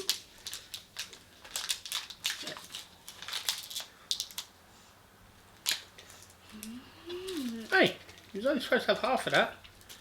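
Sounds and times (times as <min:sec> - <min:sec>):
plastic wrapper crinkling: 0:00.0 - 0:04.6, 0:05.6 - 0:10.0.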